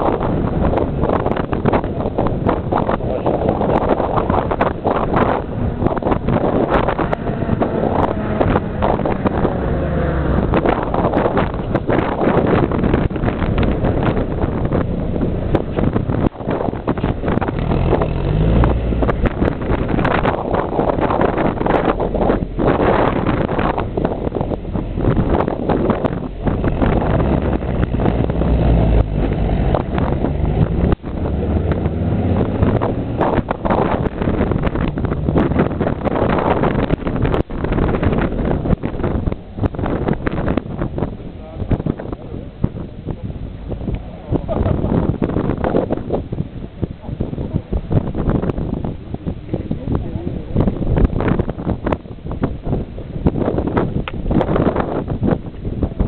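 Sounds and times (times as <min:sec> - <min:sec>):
low engine drone: 0:00.0 - 0:52.6
wind buffeting microphone: 0:00.0 - 0:56.0.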